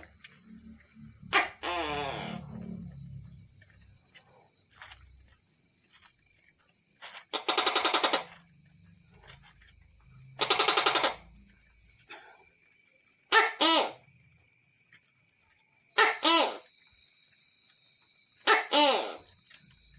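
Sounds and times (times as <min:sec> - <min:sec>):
gecko calling: 0:00.0 - 0:19.9
insects chirring: 0:00.0 - 0:19.9.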